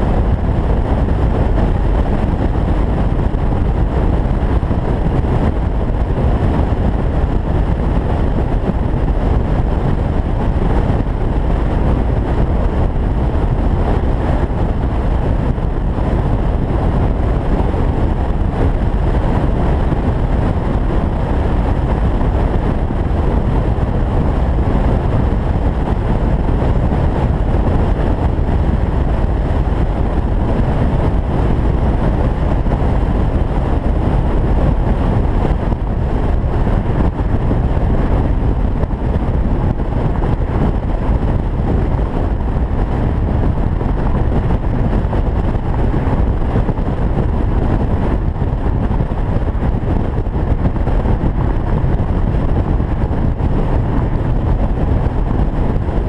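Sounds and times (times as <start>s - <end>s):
car road noise: 0.0s - 56.0s
wind on microphone: 0.0s - 56.0s.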